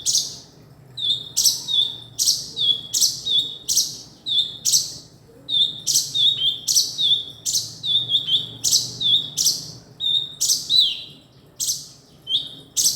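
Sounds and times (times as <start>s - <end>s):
bird calling with sharp chirp: 1.0s - 5.0s, 5.6s - 12.9s.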